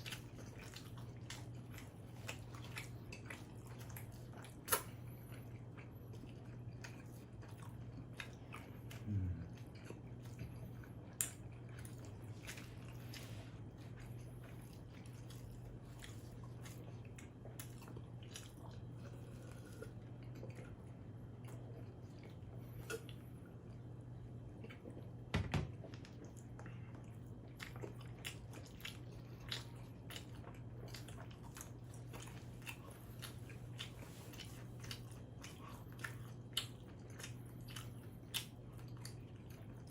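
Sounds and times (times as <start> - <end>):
chewing and mouth clicks: 0.0 - 25.2, 25.8 - 39.9
steady low hum: 0.0 - 39.9.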